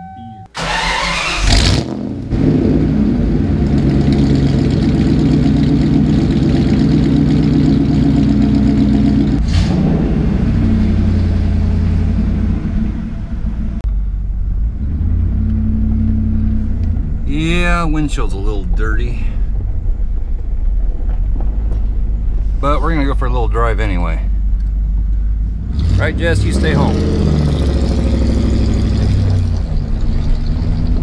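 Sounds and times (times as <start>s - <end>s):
truck engine starting and idling: 0.0s - 31.0s.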